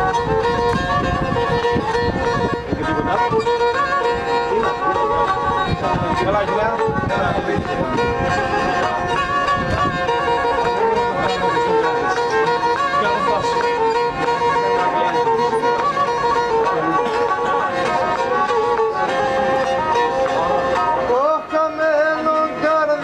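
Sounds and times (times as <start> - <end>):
bowed string folk melody: 0.0 - 23.0
voices chatting: 1.6 - 22.4.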